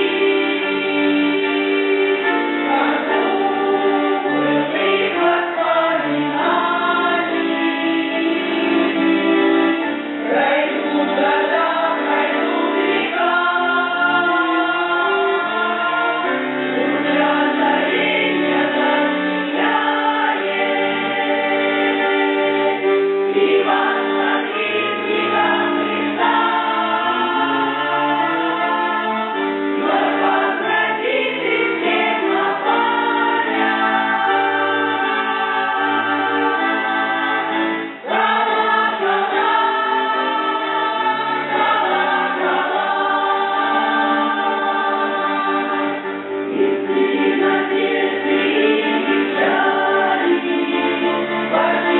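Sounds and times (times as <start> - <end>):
choir singing in harmony: 0.0 - 51.9.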